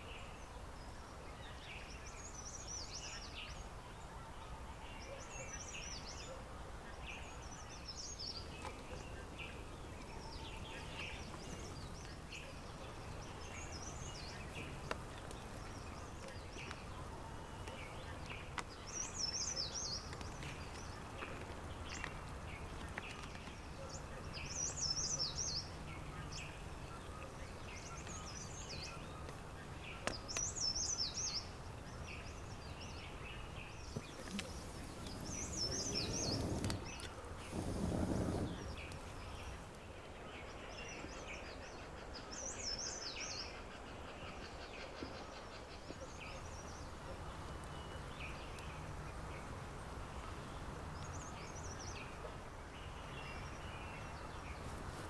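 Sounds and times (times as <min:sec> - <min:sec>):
low outdoor ambient hum: 0:00.0 - 0:55.0
wild birds twittering: 0:00.0 - 0:55.0.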